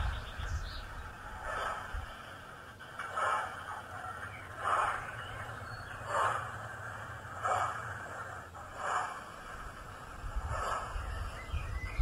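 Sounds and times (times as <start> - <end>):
steady low hum: 0.0 - 12.0
steam locomotive exhaust chuffs: 1.0 - 12.0.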